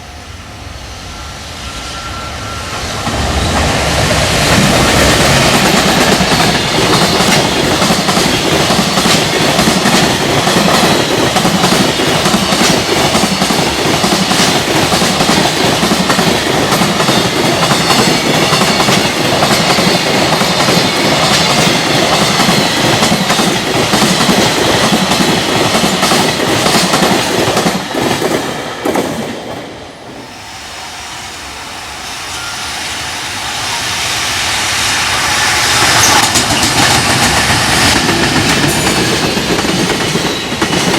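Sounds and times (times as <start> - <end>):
freight train wheels on rail: 0.0 - 40.9
rail joints clickety-clack: 0.0 - 40.9.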